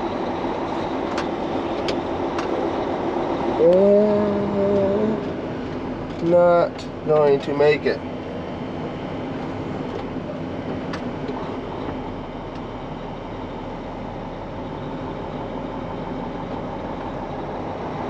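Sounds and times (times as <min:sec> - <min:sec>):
truck engine running at low speed: 0:00.0 - 0:18.0.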